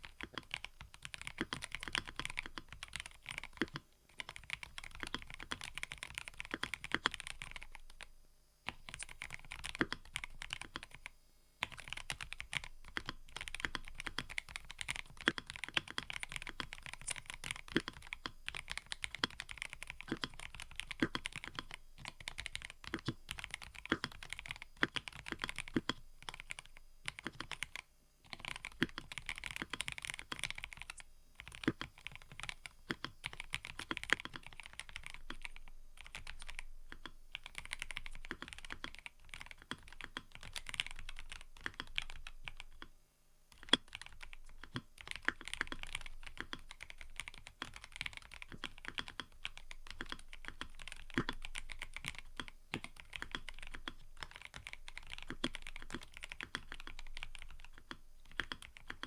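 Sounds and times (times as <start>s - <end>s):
typing on mechanical keyboard: 0.0s - 8.1s, 8.7s - 42.9s, 43.5s - 59.0s.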